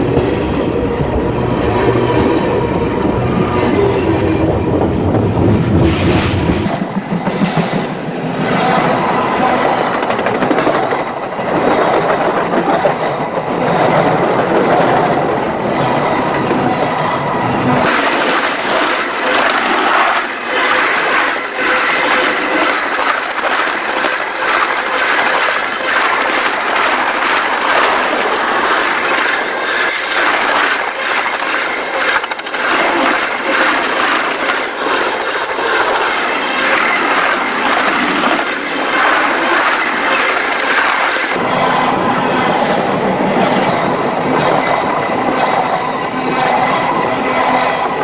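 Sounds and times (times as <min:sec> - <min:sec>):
steel wheels rattling on track: 0:05.1 - 0:48.0.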